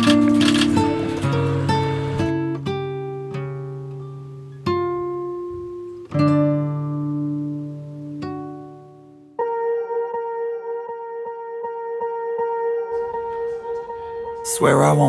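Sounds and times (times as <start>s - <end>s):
slow guitar chords: 0.0s - 15.0s.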